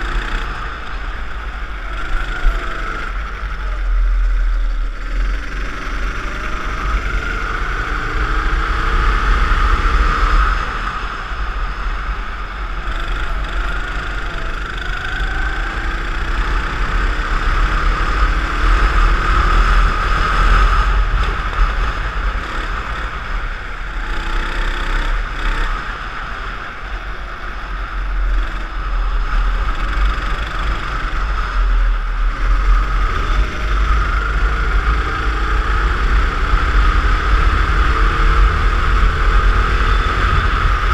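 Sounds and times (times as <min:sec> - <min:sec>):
go-kart engine revving: 0:00.0 - 0:40.9
wind and vibration rumble: 0:00.0 - 0:40.9.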